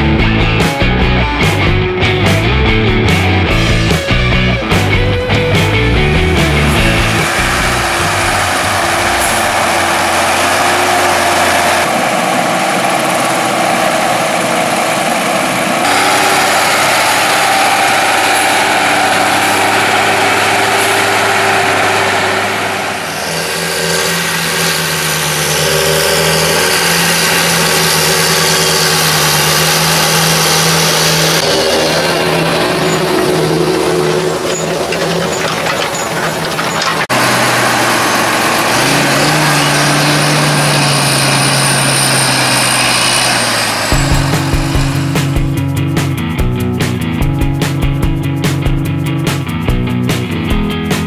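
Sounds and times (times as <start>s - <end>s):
tractor diesel engines: 0.0s - 51.0s.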